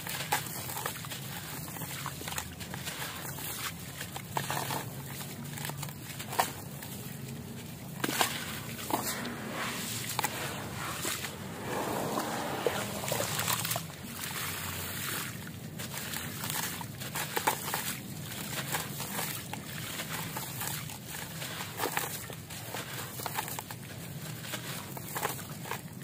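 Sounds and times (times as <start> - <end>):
water sloshing and dribbling: 0.0 - 26.0.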